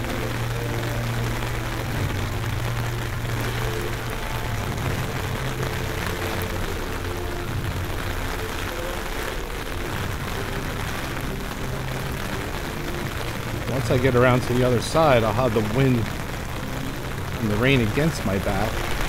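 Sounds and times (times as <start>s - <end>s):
hurricane wind and rain: 0.0s - 19.0s.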